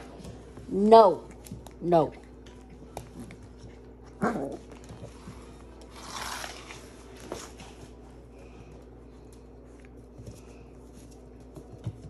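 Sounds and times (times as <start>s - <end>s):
puppies scuffling: 0.0s - 12.0s.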